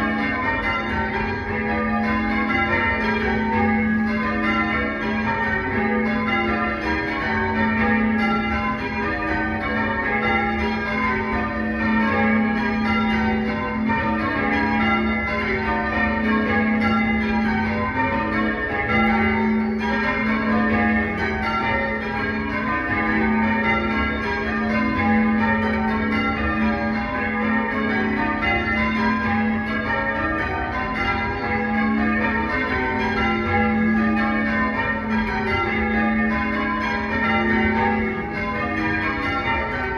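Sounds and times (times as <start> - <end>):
tower bells ringing: 0.0 - 39.9.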